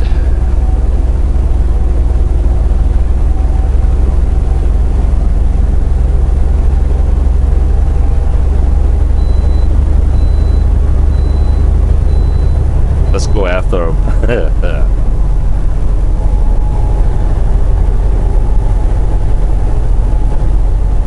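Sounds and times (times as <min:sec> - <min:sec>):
truck engine drone and road noise: 0:00.0 - 0:21.0.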